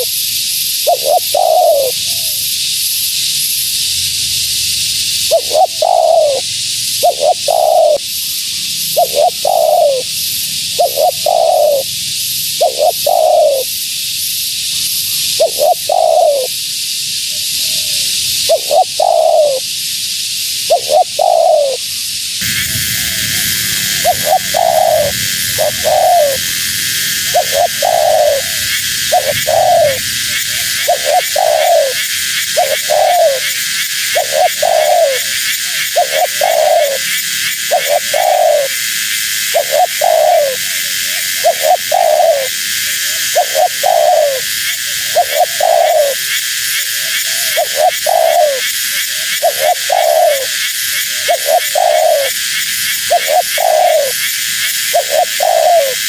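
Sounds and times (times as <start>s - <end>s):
dove cooing: 0.0s - 0.2s, 0.8s - 2.4s, 5.2s - 8.0s, 8.9s - 10.1s, 10.7s - 11.9s, 12.6s - 13.7s, 15.4s - 16.5s, 17.8s - 19.6s, 20.7s - 21.8s, 22.4s - 56.0s
steady high hiss: 0.0s - 56.0s.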